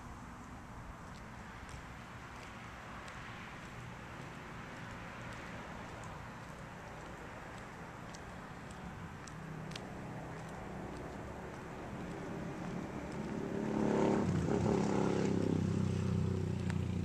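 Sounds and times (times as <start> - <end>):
approaching vehicle hum: 0.0 - 17.0
low traffic rumble: 0.0 - 17.0.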